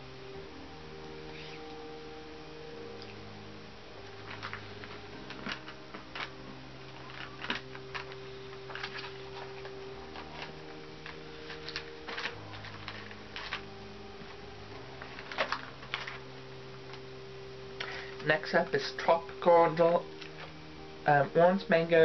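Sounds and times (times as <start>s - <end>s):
faint low drone: 0.0s - 22.0s.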